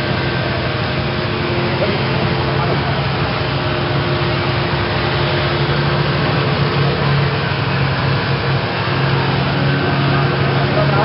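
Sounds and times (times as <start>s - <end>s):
speedboat engine running: 0.0s - 11.0s.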